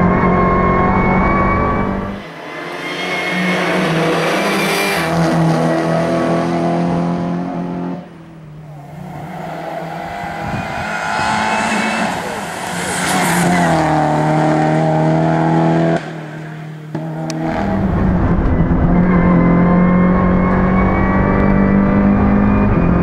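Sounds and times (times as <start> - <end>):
racing car engine: 0.0 - 23.0.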